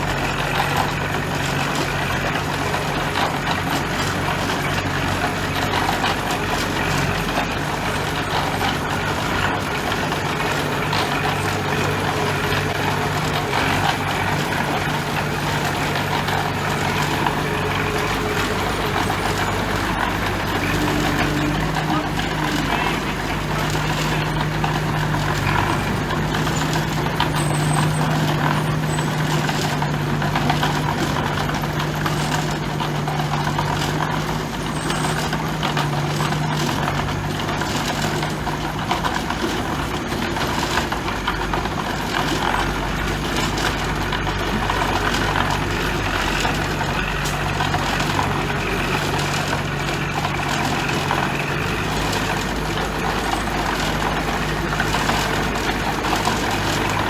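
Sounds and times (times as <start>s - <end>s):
construction work noise: 0.0s - 57.0s
heavy diesel engine droning: 0.0s - 57.0s.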